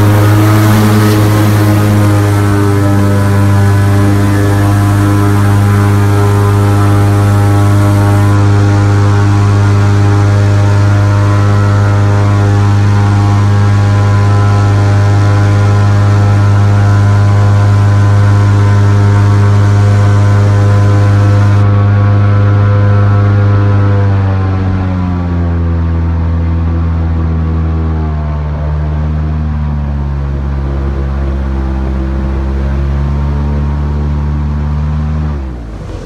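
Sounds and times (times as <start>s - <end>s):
airboat engine and propeller hum: 0.0s - 36.0s.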